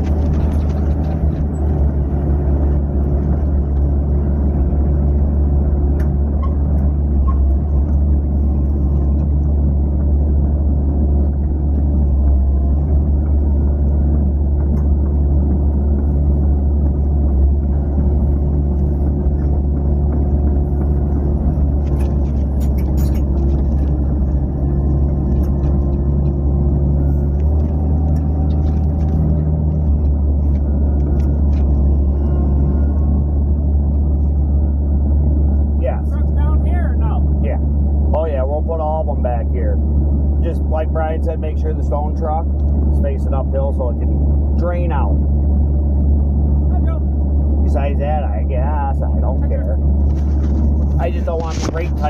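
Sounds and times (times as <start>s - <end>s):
excavator diesel engine drone: 0.0s - 52.0s.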